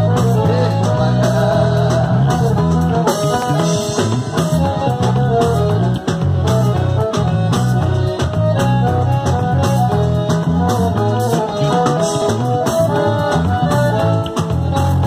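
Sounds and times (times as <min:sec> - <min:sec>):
accordion melody: 0:00.0 - 0:15.0
bass guitar: 0:00.0 - 0:15.0
drum kit: 0:00.0 - 0:15.0
electric guitar: 0:00.0 - 0:15.0.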